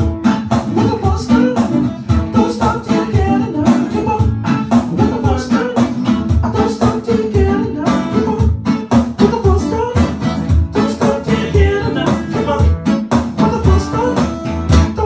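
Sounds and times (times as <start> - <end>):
acoustic guitar strumming: 0.0 - 15.0
man singing into a microphone: 0.6 - 15.0.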